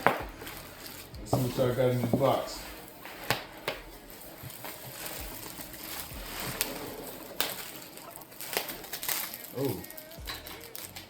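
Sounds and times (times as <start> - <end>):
box and wrapping rustling: 0.0 - 11.0.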